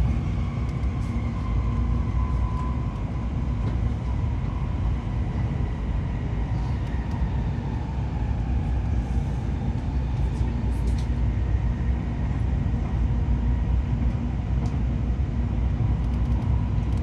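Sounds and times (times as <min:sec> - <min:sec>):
train cabin low rumble: 0:00.0 - 0:17.0.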